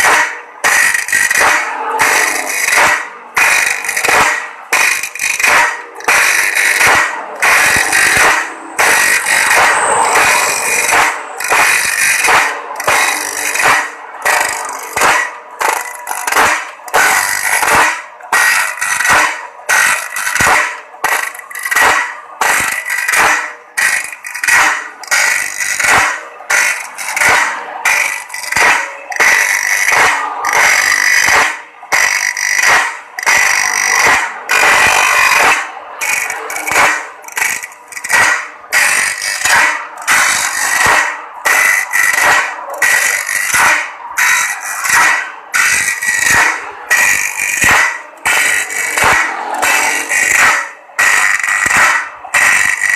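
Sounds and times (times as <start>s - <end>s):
grinding wheel rasping on blade: 0.0s - 52.9s
steady high machine whine: 0.0s - 52.9s.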